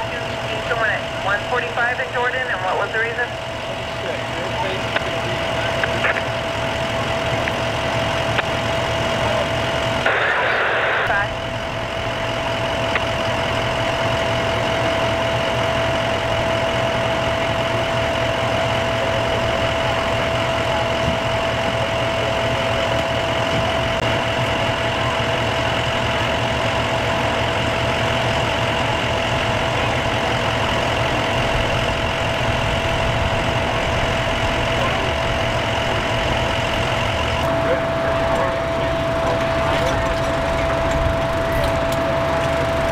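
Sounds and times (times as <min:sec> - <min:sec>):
engine idling with whine: 0:00.0 - 0:42.9.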